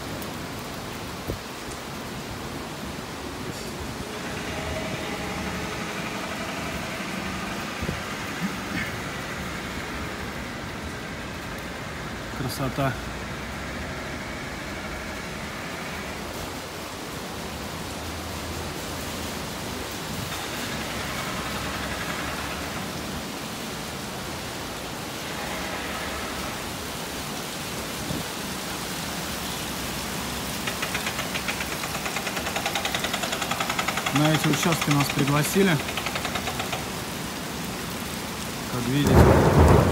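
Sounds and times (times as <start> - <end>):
rain and wind rushing: 0.0 - 39.9.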